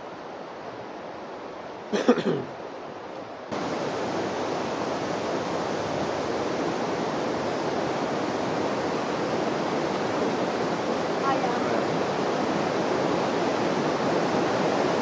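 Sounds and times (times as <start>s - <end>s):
river rushing over rocks: 0.4s - 15.0s.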